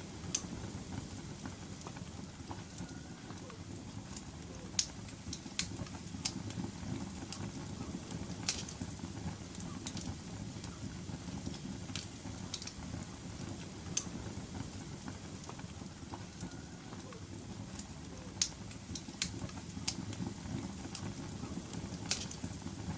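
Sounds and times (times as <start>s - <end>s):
fire burning with crackles: 0.0s - 22.9s.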